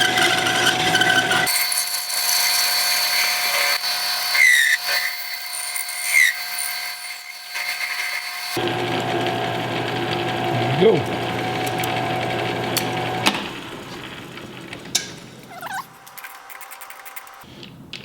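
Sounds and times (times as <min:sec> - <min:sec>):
lathe tool squealing: 0:00.0 - 0:14.4, 0:15.4 - 0:15.9
lathe tool cutting aluminium: 0:00.0 - 0:15.6.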